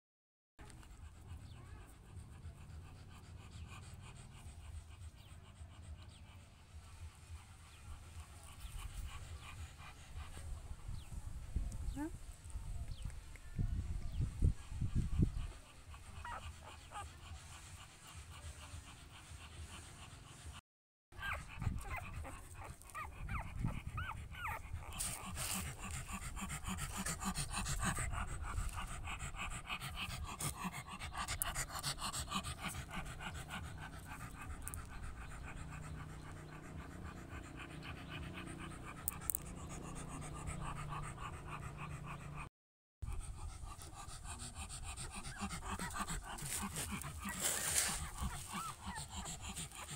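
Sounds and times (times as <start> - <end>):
dog panting: 0.6 - 12.2, 14.1 - 20.6, 21.2 - 49.9.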